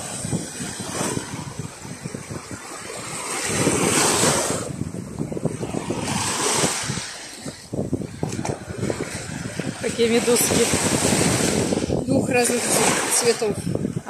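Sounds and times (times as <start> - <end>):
small waves washing onto shore: 0.0 - 14.0
wind buffeting microphone: 0.0 - 14.0.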